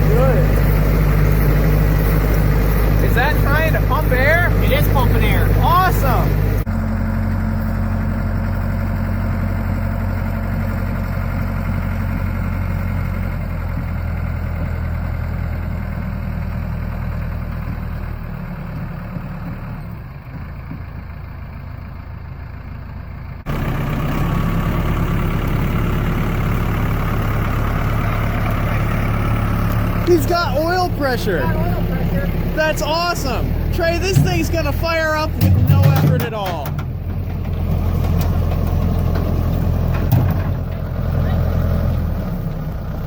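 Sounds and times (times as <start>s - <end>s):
truck engine turning over: 0.0s - 43.0s.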